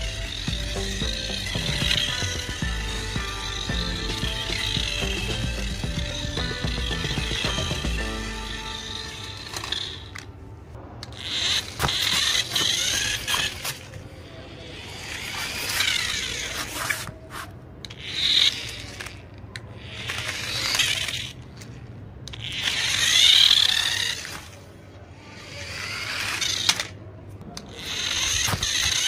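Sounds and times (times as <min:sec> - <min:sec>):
toy car electric motor whining: 0:00.0 - 0:29.0.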